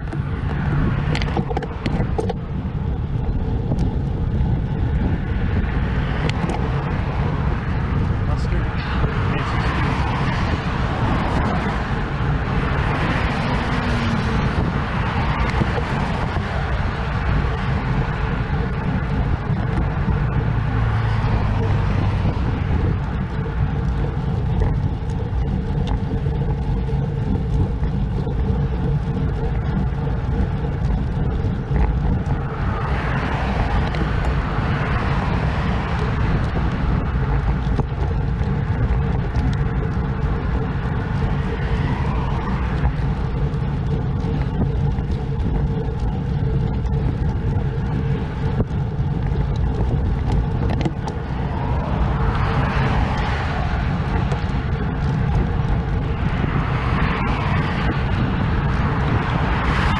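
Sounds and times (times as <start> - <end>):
road traffic passing: 0.0 - 59.9
wind rumble on microphone: 0.0 - 59.9.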